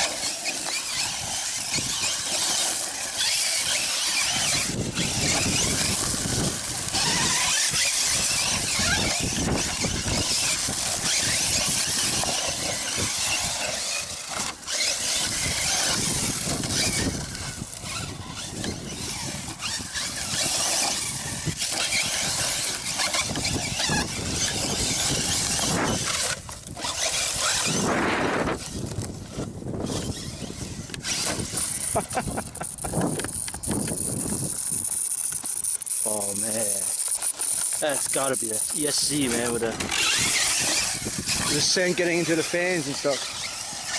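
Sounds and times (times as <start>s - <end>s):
electric motor whining: 0.0s - 43.9s
tyres on gravel: 0.0s - 43.9s.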